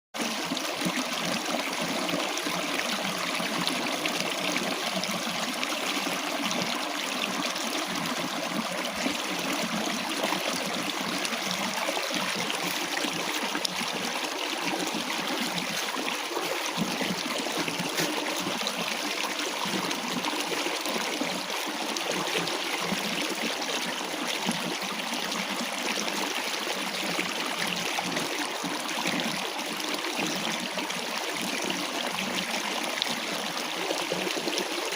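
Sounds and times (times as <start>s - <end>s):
stream water flowing: 0.2s - 34.9s.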